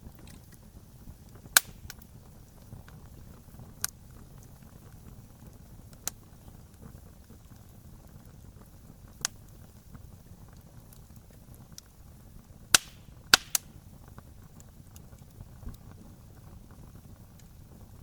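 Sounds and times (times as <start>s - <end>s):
burning wood popping: 0.0s - 18.0s
wood fire crackling: 0.0s - 18.0s.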